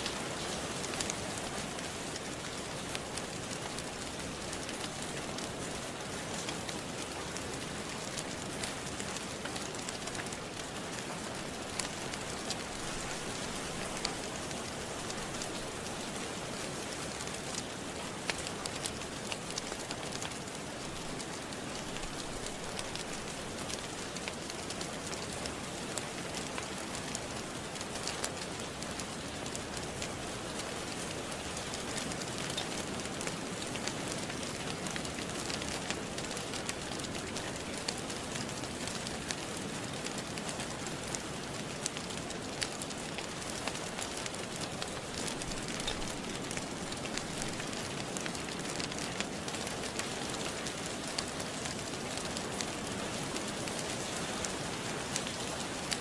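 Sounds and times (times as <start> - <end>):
fire crackling: 0.0 - 56.0
steady rain: 0.0 - 56.0.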